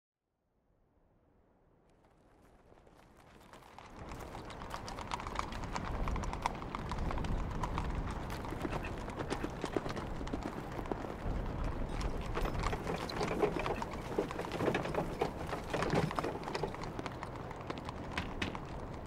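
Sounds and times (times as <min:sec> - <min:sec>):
horse hooves clip-clopping on dirt: 0:02.0 - 0:19.0.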